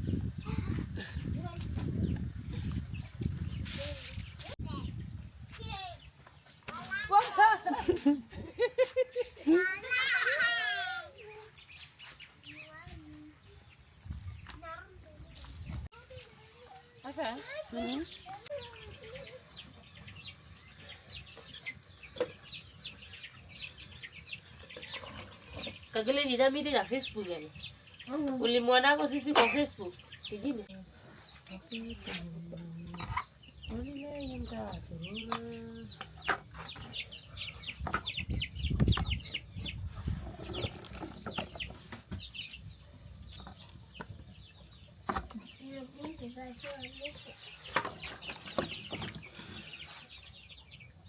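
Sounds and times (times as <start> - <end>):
chicks peeping: 0.0 - 6.6, 9.0 - 51.0.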